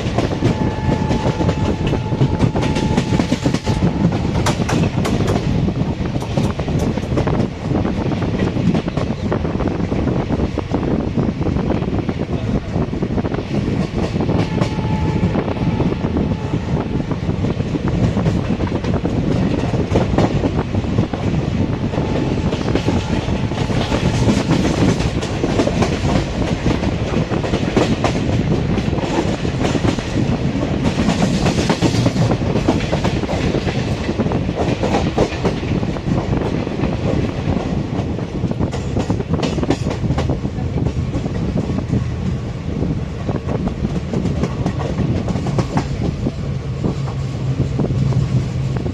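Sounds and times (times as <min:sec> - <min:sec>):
train wheels clattering over rail joints: 0:00.0 - 0:09.3, 0:17.4 - 0:42.4, 0:43.1 - 0:48.9.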